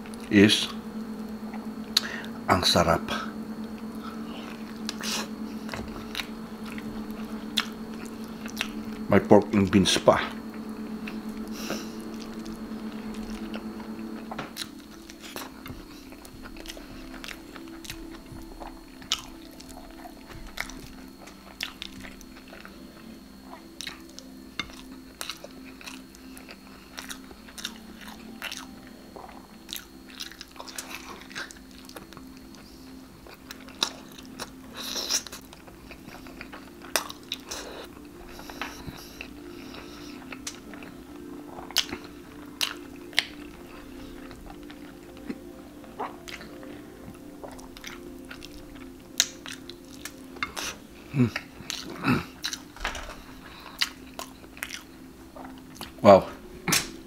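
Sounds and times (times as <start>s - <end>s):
person chewing: 1.5s - 2.3s, 3.6s - 9.1s, 11.0s - 56.0s.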